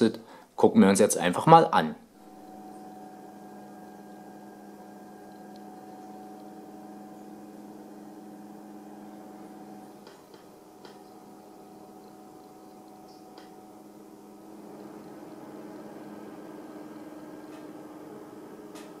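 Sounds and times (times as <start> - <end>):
case fans whirring: 2.2 - 19.0.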